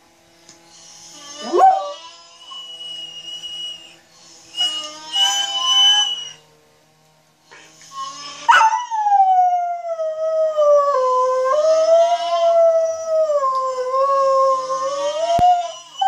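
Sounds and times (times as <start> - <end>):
dog howling: 1.2 - 6.4, 8.1 - 16.0.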